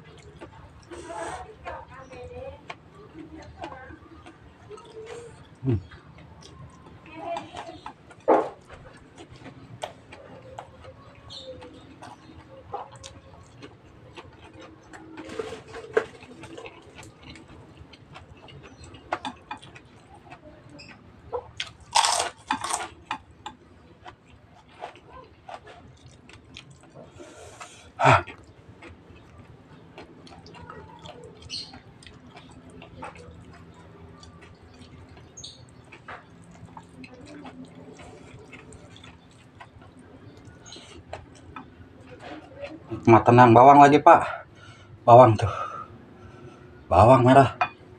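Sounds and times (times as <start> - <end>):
man chewing crunchy food: 0.0 - 47.9.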